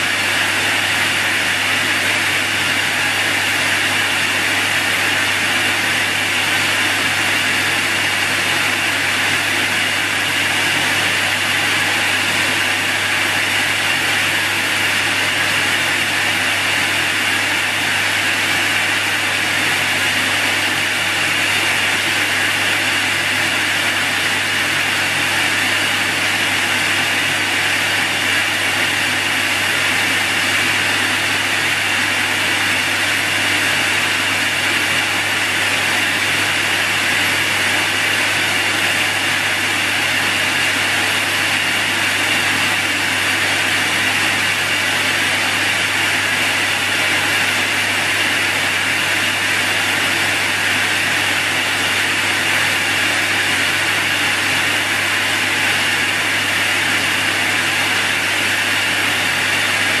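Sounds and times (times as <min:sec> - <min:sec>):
vacuum cleaner running: 0:00.0 - 1:00.0.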